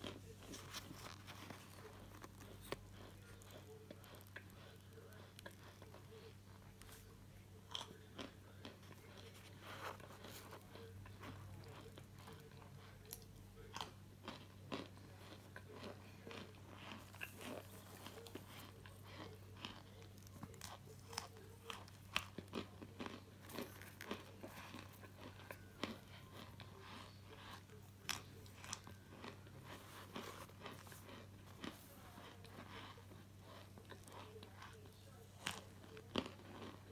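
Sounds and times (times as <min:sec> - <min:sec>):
low electrical hum: 0:00.0 - 0:36.9.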